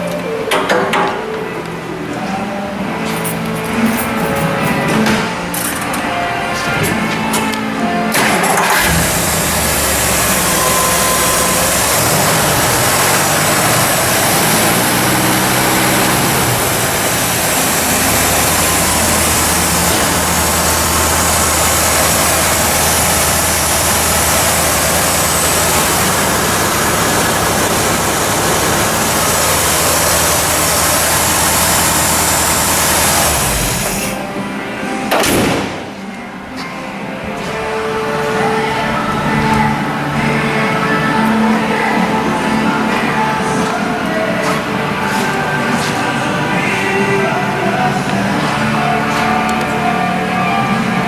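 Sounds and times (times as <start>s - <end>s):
car engine starting and idling: 3.2s - 35.8s, 37.3s - 51.0s.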